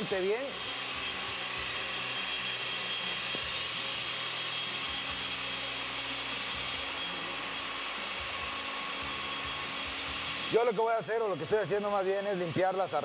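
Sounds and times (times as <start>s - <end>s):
blender running: 0.0s - 13.0s.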